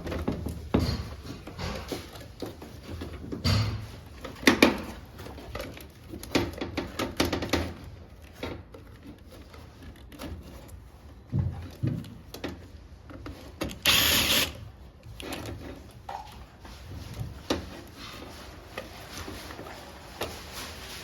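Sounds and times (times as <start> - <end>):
knocks and clatter of machine parts: 0.0 - 21.0.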